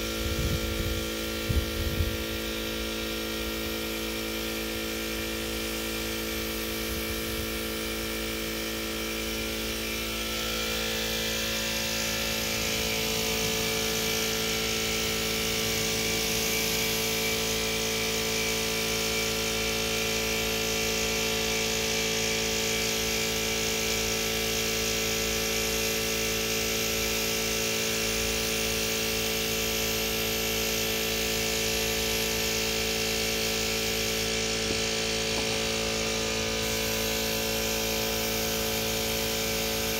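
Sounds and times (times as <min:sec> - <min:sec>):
motor humming: 0:00.0 - 0:23.0, 0:29.0 - 0:39.9
paint spray gun hissing: 0:00.0 - 0:39.9.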